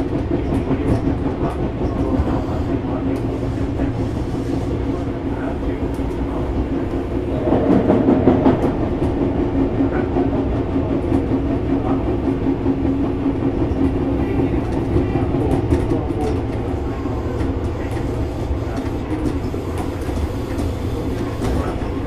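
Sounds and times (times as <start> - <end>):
electric train running hum: 0.0 - 22.0.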